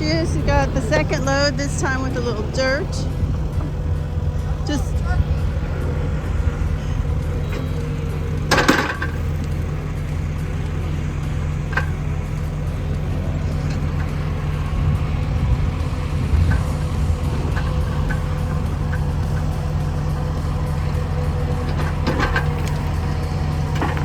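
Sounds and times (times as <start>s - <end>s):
diesel engine running: 0.0s - 24.0s
loud metallic clank: 0.0s - 24.0s.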